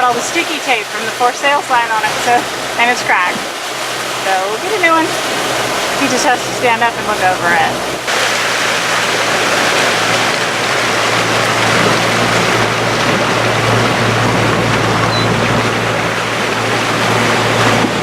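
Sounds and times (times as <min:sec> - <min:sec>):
motorboat engine drone: 0:00.0 - 0:18.0
rush of wind and water: 0:00.0 - 0:18.0.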